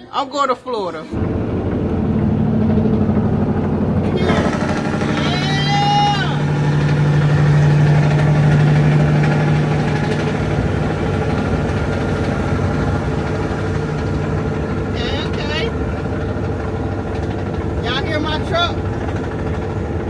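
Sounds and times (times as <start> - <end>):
diesel truck engine running: 1.1 - 20.0.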